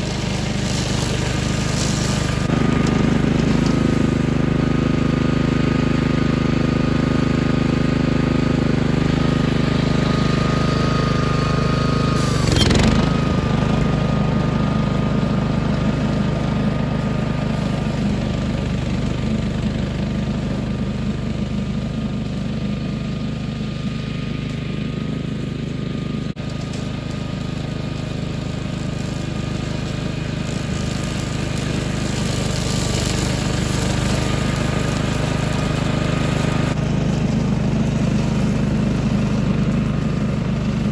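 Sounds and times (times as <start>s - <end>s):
small gas engine cutting brush: 0.0s - 40.9s.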